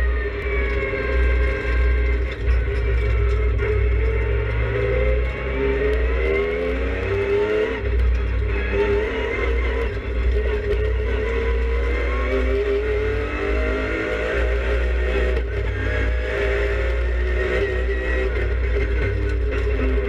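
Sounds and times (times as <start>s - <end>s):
race car engine revving: 0.0s - 20.0s
road and body rumble: 0.0s - 20.0s.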